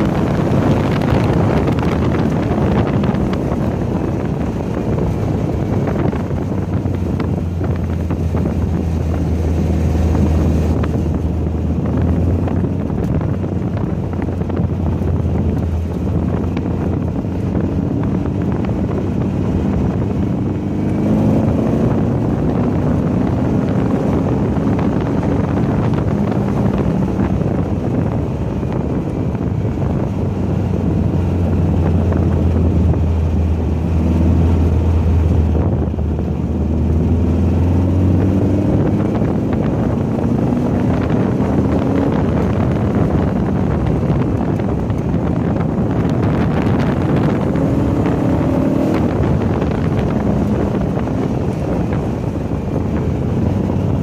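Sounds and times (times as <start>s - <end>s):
car engine revving: 0.0s - 54.0s
wind noise on microphone: 0.0s - 54.0s.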